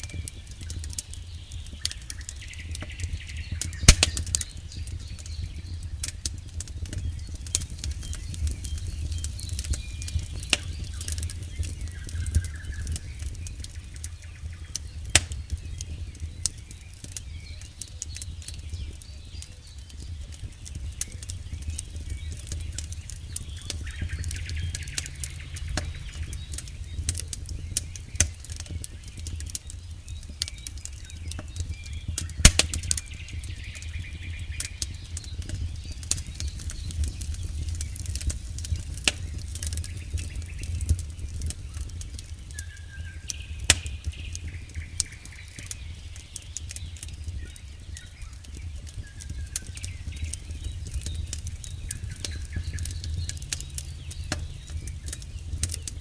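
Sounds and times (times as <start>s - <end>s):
burning wood popping: 0.0s - 56.0s
flames rumbling: 0.0s - 56.0s.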